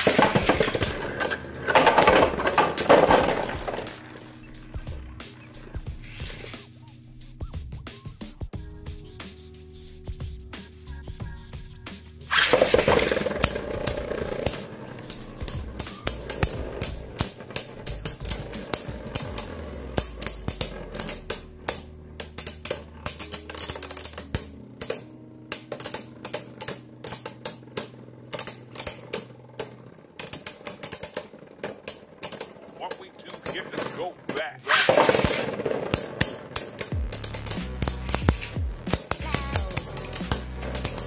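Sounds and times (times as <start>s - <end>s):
spinning tops clacking together: 0.0s - 4.4s, 12.3s - 41.0s
spinning tops launched with rip: 0.0s - 6.7s, 12.2s - 41.0s.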